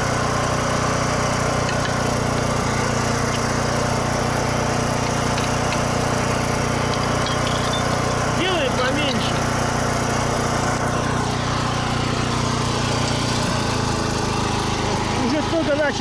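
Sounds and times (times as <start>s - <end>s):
portable generator engine running: 0.0s - 16.0s.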